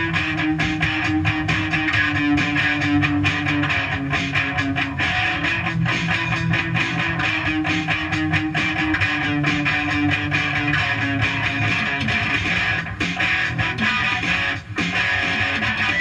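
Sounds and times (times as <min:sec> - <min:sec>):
band song from cassette tape: 0:00.0 - 0:16.0.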